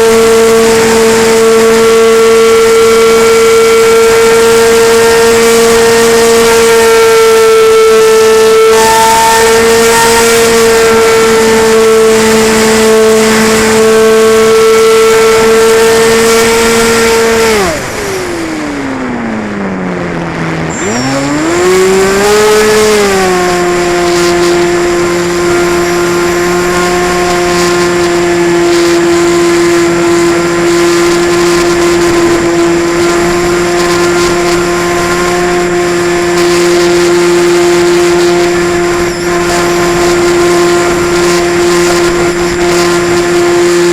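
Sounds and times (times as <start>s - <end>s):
model airplane motor and propeller: 0.0s - 43.9s.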